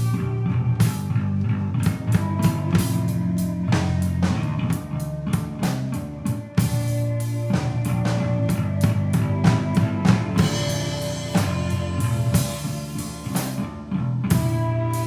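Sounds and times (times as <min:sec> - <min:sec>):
bass guitar: 0:00.0 - 0:15.0
drum kit with cymbals: 0:00.0 - 0:15.0
electric guitar: 0:00.0 - 0:15.0.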